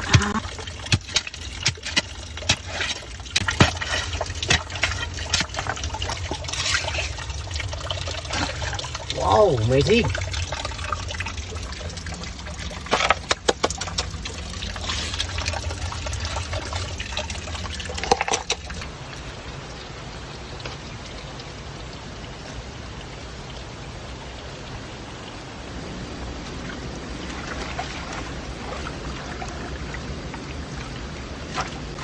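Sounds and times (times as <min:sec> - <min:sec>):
water running and trickling: 0:00.0 - 0:32.0.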